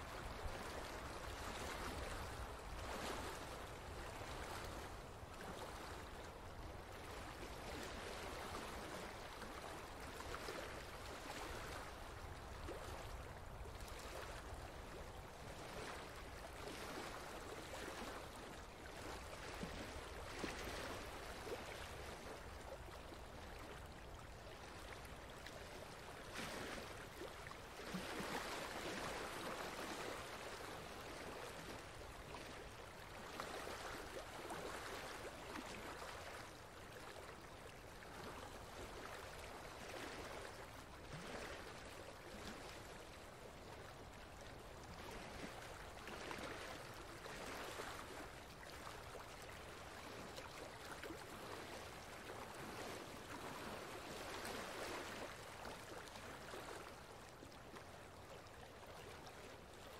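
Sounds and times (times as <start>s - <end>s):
flowing stream water: 0.0s - 59.9s.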